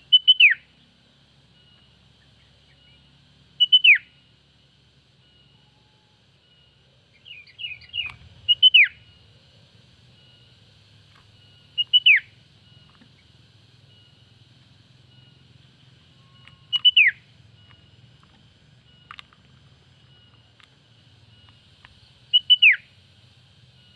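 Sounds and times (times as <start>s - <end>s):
bulbul calling: 0.0s - 4.4s, 6.5s - 23.9s.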